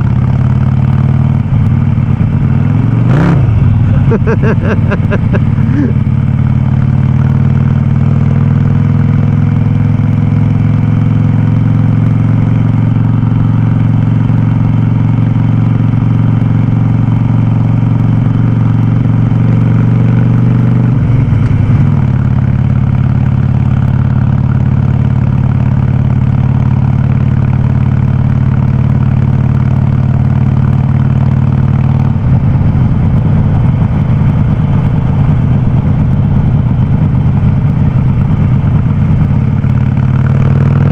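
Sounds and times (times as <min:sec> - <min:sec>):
motorcycle engine running loud: 0:00.0 - 0:40.9.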